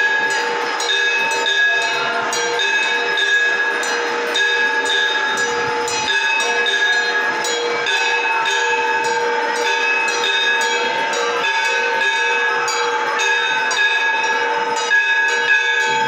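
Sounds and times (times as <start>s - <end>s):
temple bells ringing: 0.0s - 16.0s.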